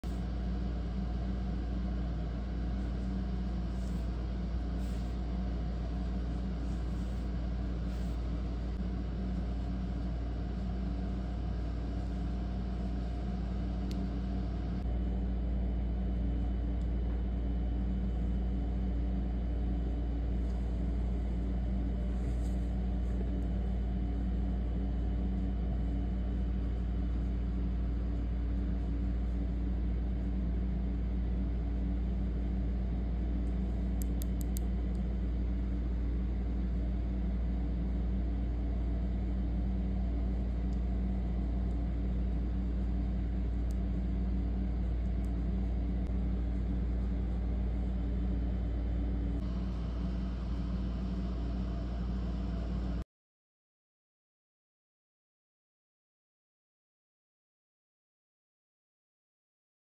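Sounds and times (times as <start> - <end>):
constant hum: 0.0 - 53.0
low rumble: 2.3 - 53.0.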